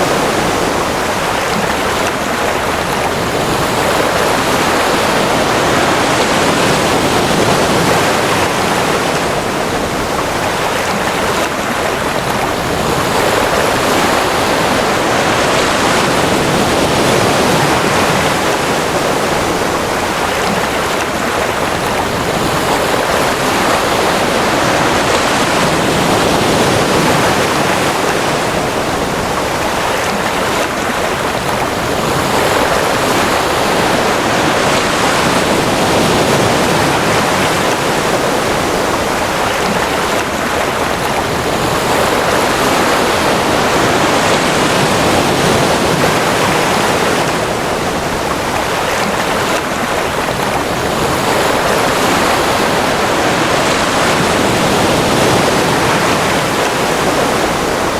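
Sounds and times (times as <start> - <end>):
ocean surf breaking: 0.0 - 57.9.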